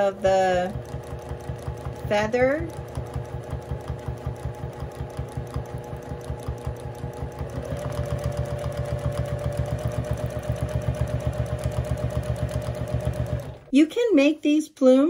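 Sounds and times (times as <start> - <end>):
sewing machine needle stitching: 0.0 - 13.7
sewing machine motor hum: 0.0 - 13.8.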